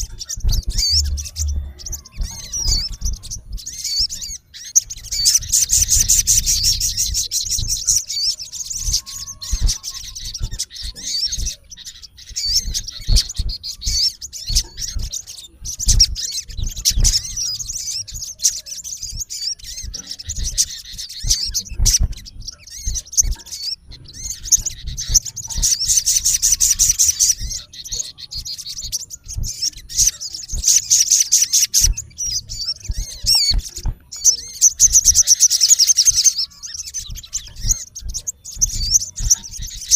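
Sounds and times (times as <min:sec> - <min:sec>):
bird chirping harshly: 0:00.0 - 0:39.9.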